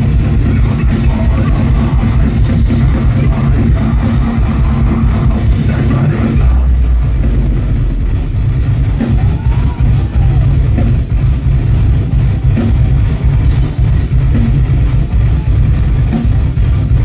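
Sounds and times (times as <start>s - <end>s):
bass guitar: 0.0s - 17.0s
distorted electric guitars: 0.0s - 17.0s
drum kit with kick drum: 0.0s - 17.0s.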